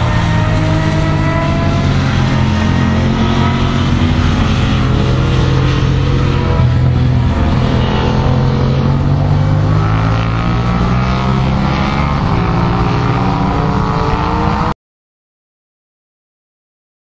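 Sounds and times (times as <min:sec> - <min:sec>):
motorcycle engines revving high: 0:00.0 - 0:14.8.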